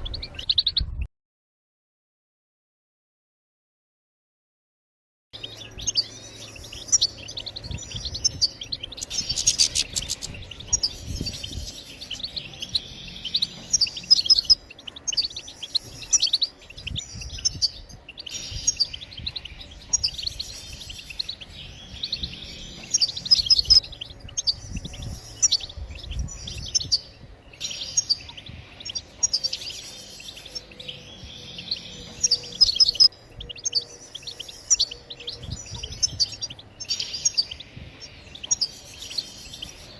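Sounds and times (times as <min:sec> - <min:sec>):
goldfinch twittering: 0:05.4 - 0:39.9.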